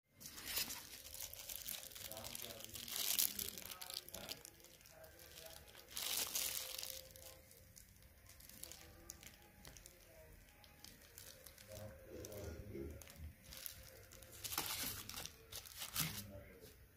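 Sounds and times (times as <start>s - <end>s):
plastic wrapping crinkling: 0.2s - 16.7s.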